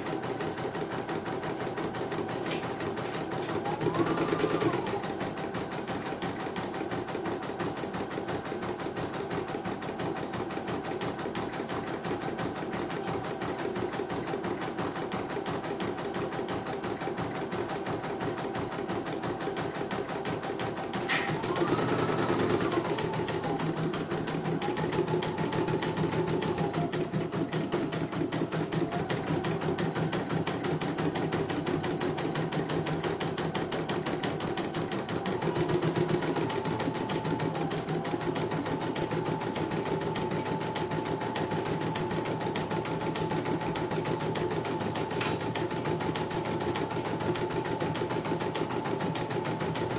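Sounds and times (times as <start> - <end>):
embroidery machine stitching: 0.0 - 49.9.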